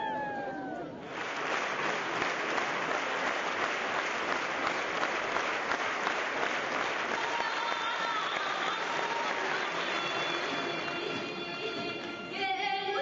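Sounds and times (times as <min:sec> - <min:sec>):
crowd clapping: 0:00.0 - 0:12.3.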